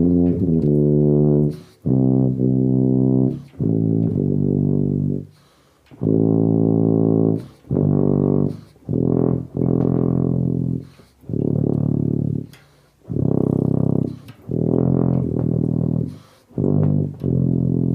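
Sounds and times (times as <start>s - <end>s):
tuba playing slow hymn melody: 0.0s - 17.9s.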